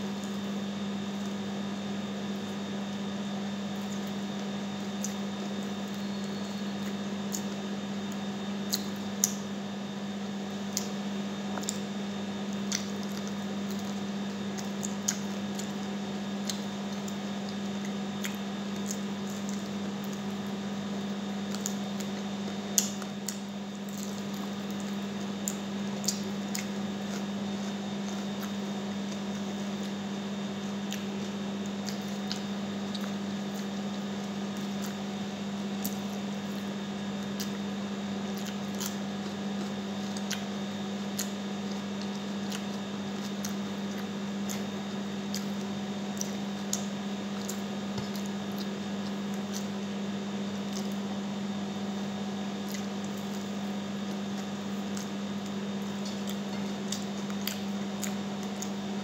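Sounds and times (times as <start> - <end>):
wet chewing and lip-smacking: 3.7 - 9.5, 10.4 - 59.0.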